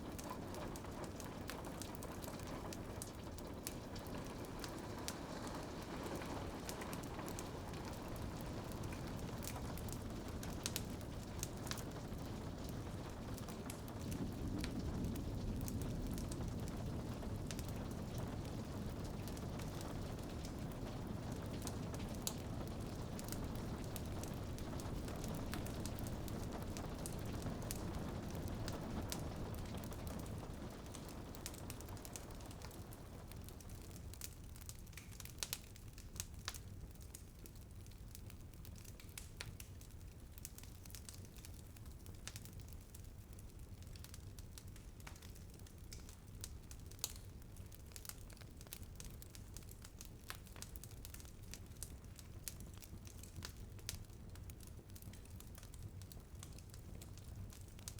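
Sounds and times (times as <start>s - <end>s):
soft rain hiss: 0.0s - 57.9s
wood fire crackling: 0.0s - 57.9s.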